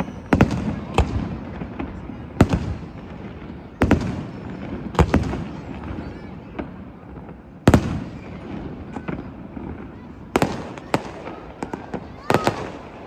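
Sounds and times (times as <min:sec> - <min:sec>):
small firework pops: 0:00.0 - 0:13.0.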